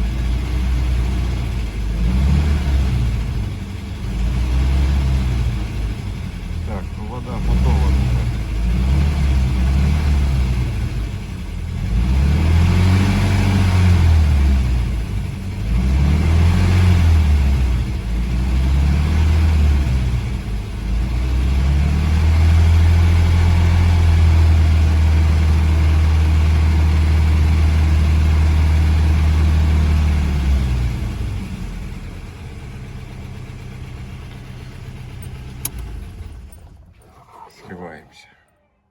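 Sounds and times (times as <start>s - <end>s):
car engine revving: 0.0s - 32.1s.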